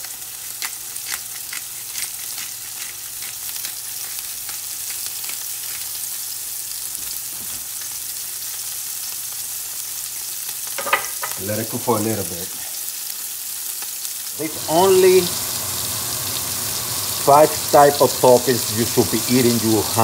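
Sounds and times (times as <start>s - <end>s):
burger patties sizzling in oil: 0.0s - 20.0s.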